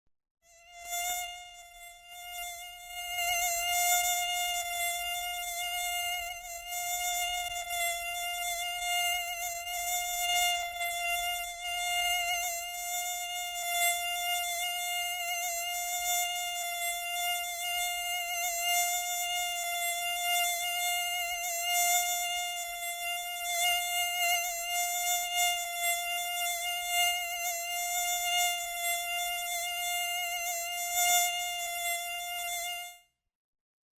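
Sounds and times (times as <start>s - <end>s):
fly buzzing: 0.5s - 33.1s.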